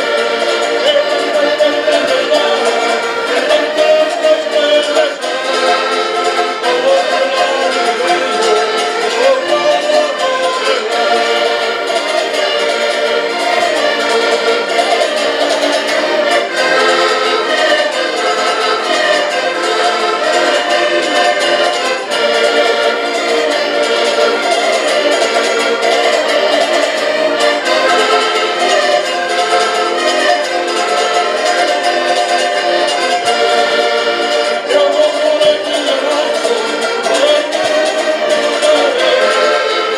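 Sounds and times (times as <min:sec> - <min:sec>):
button accordions playing folk tune: 0:00.0 - 0:39.9
plucked string instrument: 0:00.0 - 0:39.9.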